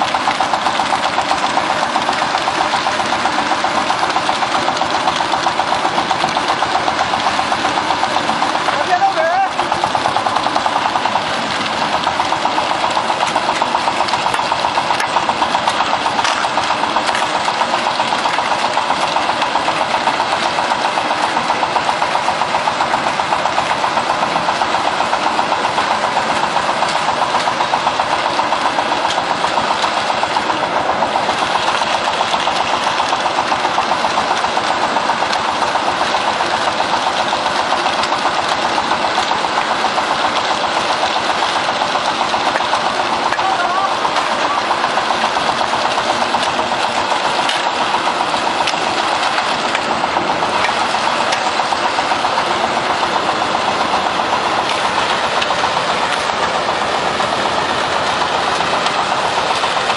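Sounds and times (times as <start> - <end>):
concrete mixer running: 0.0 - 59.9.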